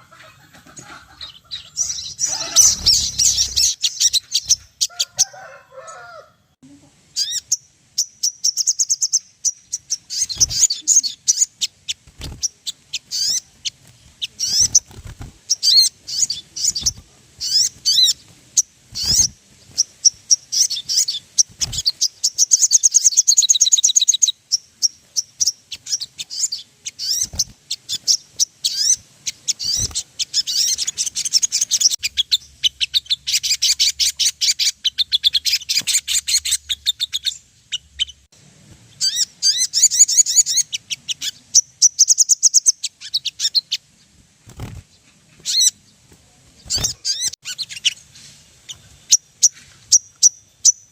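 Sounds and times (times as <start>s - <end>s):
bird singing chirps and trills: 1.1s - 5.4s, 7.1s - 38.3s, 38.9s - 50.9s.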